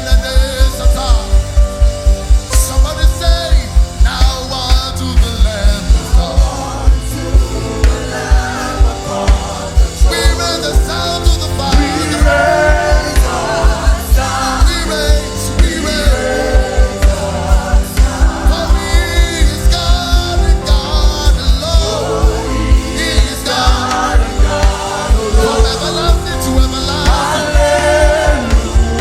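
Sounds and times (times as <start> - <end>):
fast bass beat: 0.0 - 29.0
gospel worship music: 0.0 - 29.0
sung vocals: 0.0 - 29.0.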